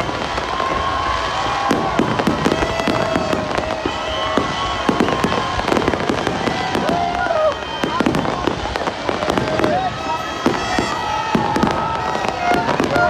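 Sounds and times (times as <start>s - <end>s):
fireworks bangs and crackling pops: 0.0s - 13.0s
fireworks whistling: 0.0s - 13.0s.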